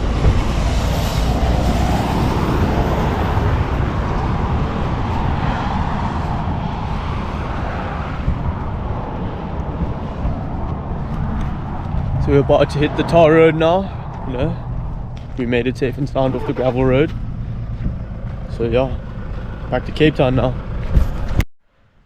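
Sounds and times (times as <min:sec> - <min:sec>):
tyres rumbling on gravel: 0:00.0 - 0:21.4
car engine: 0:00.0 - 0:21.5.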